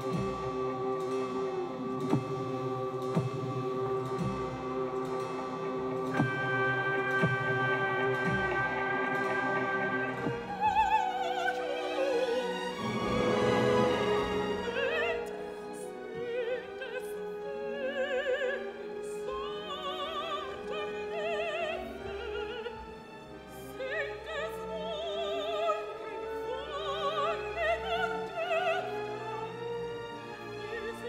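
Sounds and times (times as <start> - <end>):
operatic voice singing: 0.0 - 29.6
orchestral accompaniment: 0.0 - 31.0.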